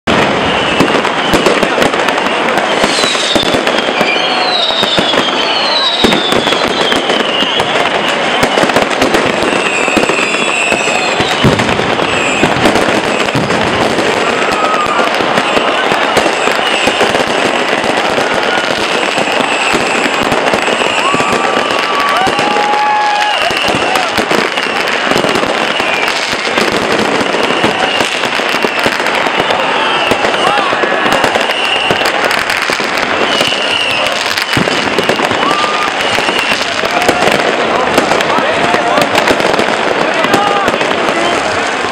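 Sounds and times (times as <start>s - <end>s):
fireworks bangs and crackles: 0.0s - 41.9s
firework whistles: 0.1s - 41.9s.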